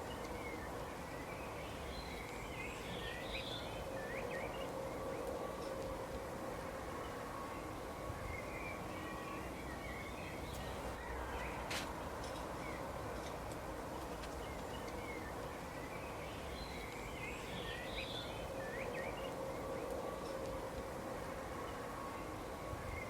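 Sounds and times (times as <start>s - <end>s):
low rumble of background noise: 0.0s - 23.0s
songbirds chirping: 0.0s - 23.0s.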